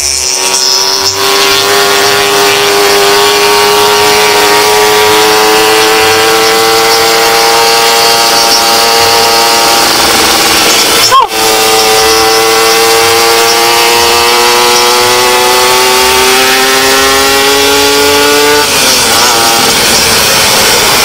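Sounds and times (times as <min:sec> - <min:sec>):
two-stroke motorcycle engine: 0:00.0 - 0:21.0.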